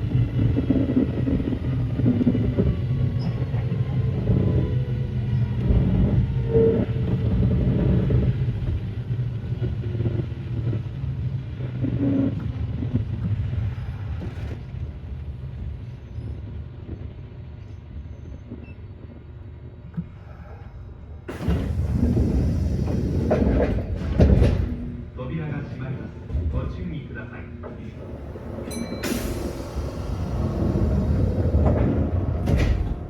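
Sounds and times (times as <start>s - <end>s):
train wheels and motors rumbling: 0.0s - 33.0s.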